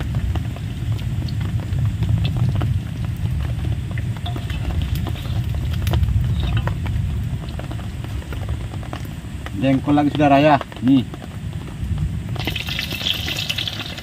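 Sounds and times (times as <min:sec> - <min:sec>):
oil crackling and popping: 0:00.0 - 0:14.0
steady low rumble: 0:00.0 - 0:14.0.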